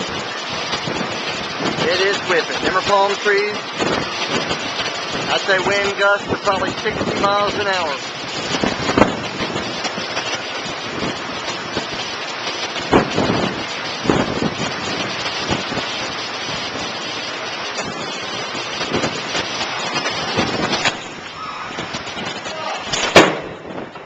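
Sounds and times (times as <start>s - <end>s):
wind and rain: 0.0s - 24.0s
wind gusts buffeting microphone: 0.0s - 24.0s.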